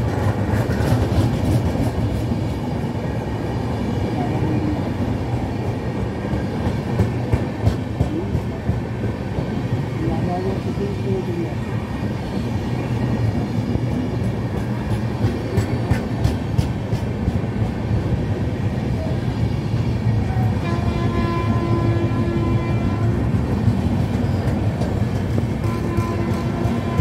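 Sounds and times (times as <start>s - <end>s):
train coaches rumbling past: 0.0s - 27.0s.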